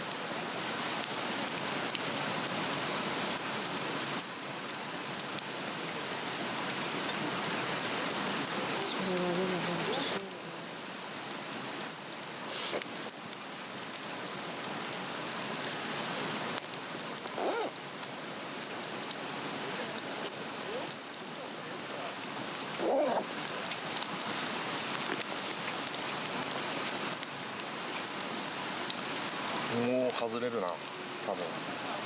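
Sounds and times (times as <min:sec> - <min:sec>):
log fire crackling: 0:00.0 - 0:32.0.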